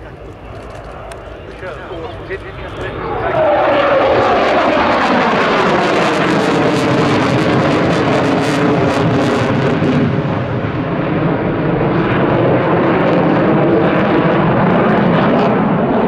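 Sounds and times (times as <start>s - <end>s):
jet roar with crackle: 0.0s - 16.0s.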